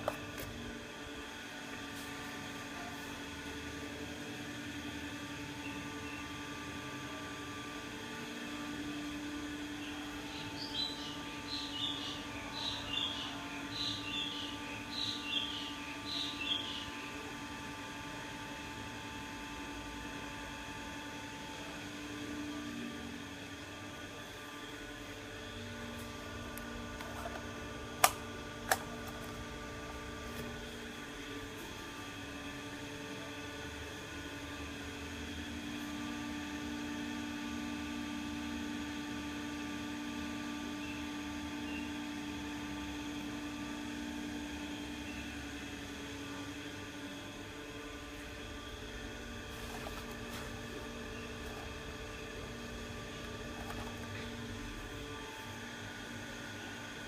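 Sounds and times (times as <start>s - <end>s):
ceiling fan motor hum: 0.0s - 57.0s.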